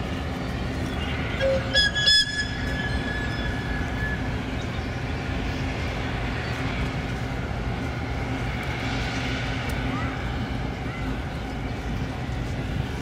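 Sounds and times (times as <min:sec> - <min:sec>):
diesel engine rumble: 0:00.0 - 0:13.0.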